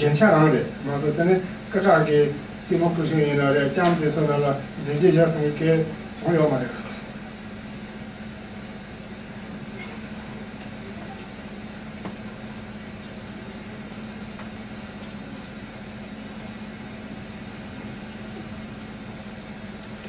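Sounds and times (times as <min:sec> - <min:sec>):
room noise hiss: 0:00.0 - 0:20.0
steady low hum: 0:00.0 - 0:20.0.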